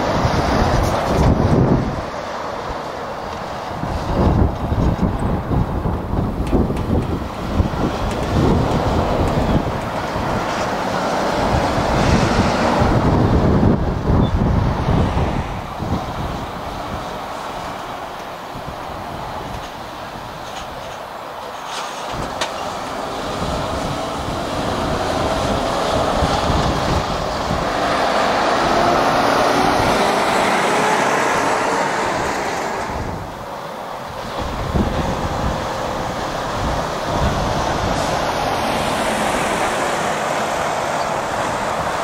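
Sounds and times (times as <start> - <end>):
diesel lorries driving past: 0.0 - 42.0.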